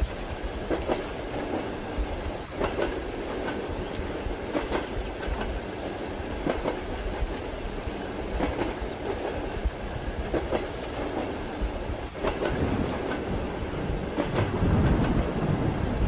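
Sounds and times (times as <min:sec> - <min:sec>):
train wheels clacking over rail joints: 0:00.0 - 0:15.8.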